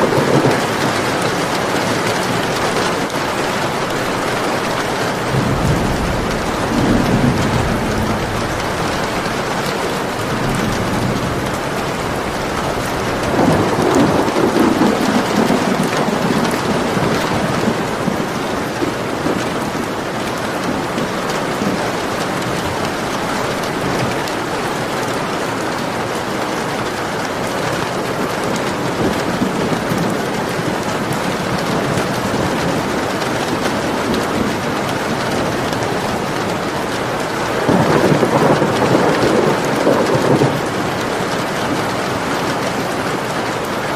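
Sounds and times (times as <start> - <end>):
rolling thunder: 0.0 - 42.7
steady rain: 0.0 - 43.9.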